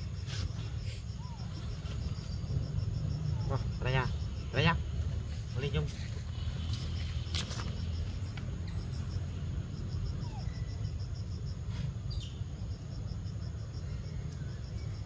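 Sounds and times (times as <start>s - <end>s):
insect chirping: 0.0s - 15.0s
steady low rumble: 0.0s - 15.0s.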